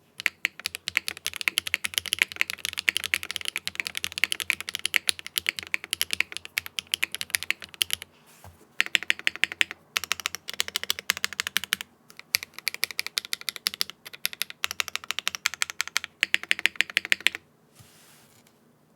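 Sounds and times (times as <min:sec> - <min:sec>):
fast typing on mechanical keyboard: 0:00.2 - 0:08.0, 0:08.8 - 0:17.4.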